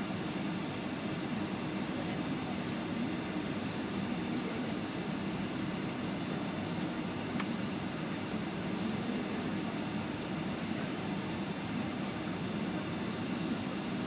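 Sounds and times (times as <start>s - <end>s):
jet engines at low power: 0.0s - 14.0s.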